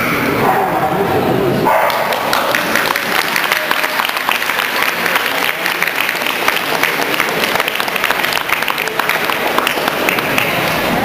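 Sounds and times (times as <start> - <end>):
audience clapping: 1.8 - 11.0.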